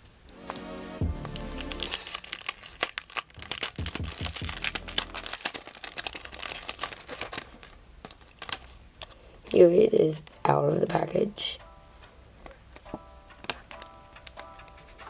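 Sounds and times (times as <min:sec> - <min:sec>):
plastic packaging crinkling: 0:00.4 - 0:10.4, 0:12.4 - 0:15.0.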